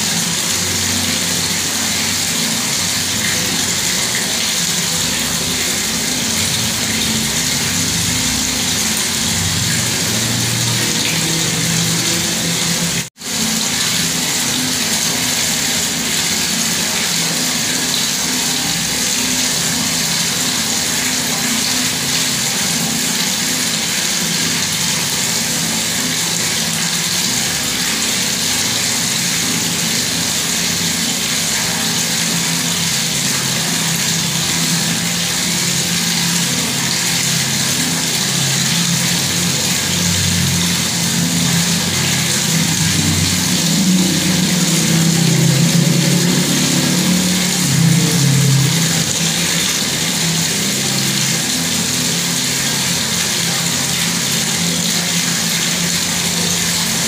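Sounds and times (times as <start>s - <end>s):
water running from tap: 0.0s - 57.0s.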